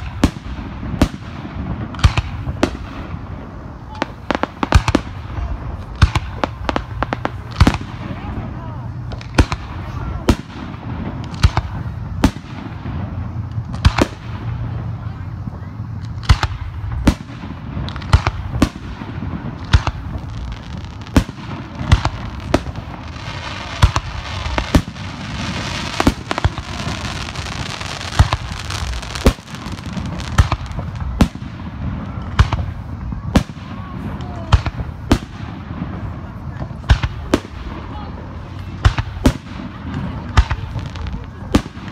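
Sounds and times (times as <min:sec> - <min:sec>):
fireworks bangs: 0:00.0 - 0:41.9
fireworks high hissing: 0:00.0 - 0:41.9.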